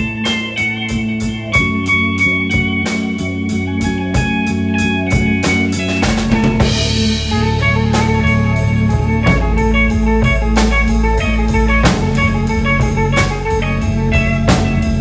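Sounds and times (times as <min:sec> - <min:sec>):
bass guitar: 0:00.0 - 0:15.0
drum kit steady beat: 0:00.0 - 0:15.0
electric guitars: 0:00.0 - 0:15.0.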